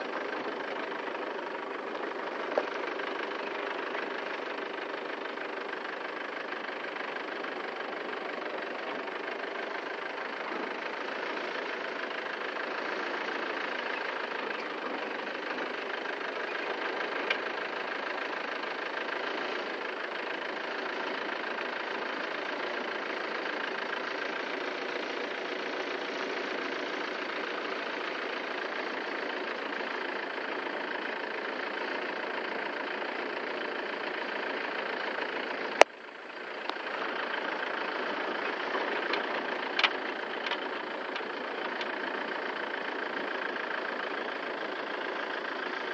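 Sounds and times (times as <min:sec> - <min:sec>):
machinery drone: 0:00.0 - 0:45.9.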